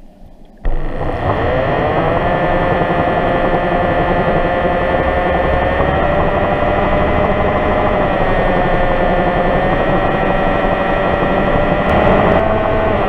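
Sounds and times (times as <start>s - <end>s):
engine whine: 0.6s - 13.0s
engine running under load: 0.7s - 13.0s.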